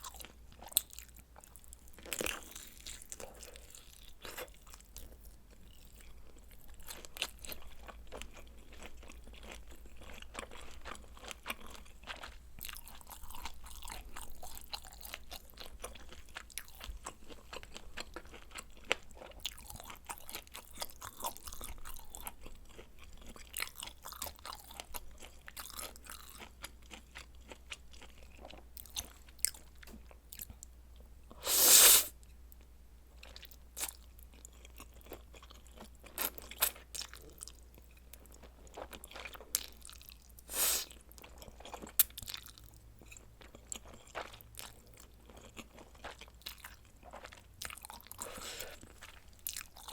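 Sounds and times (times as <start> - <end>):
person chewing food: 0.0 - 32.6, 33.2 - 49.9.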